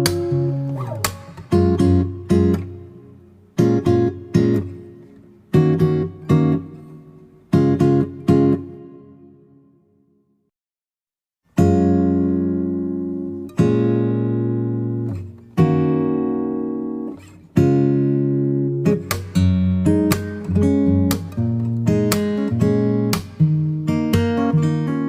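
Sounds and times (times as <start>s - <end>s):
acoustic guitar playing: 0.0s - 9.9s, 11.5s - 25.0s.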